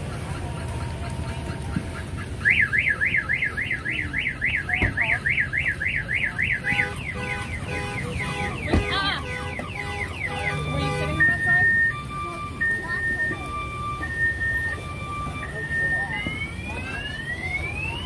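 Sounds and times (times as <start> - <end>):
car alarm warbling: 2.4 - 18.0.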